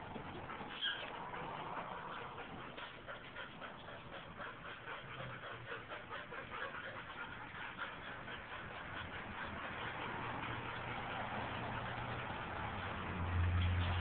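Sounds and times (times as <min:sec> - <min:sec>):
dog noises: 0:00.0 - 0:14.0.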